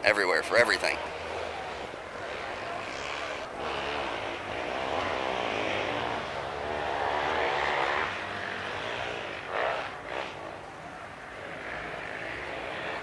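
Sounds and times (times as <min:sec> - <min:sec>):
passing motor vehicle engine: 0:00.8 - 0:13.0.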